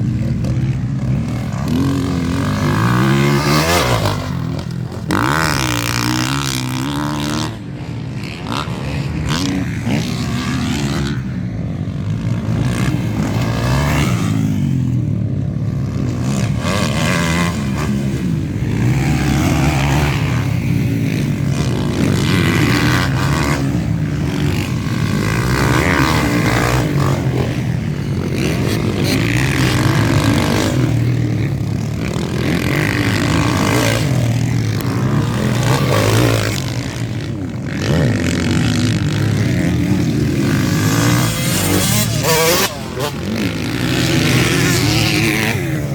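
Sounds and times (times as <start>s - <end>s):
motocross bike engines revving: 0.0s - 45.9s.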